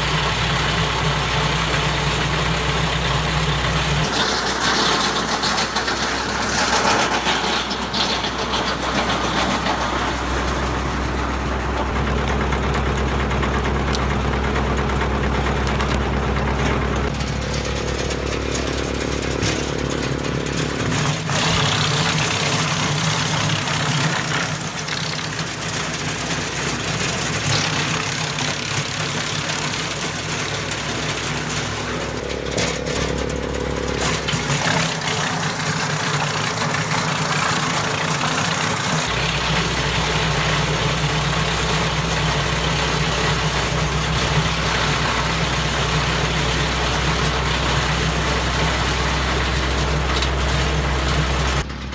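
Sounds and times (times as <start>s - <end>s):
diesel engine running: 0.0s - 51.9s
wood chipper chipping branches: 0.0s - 51.9s.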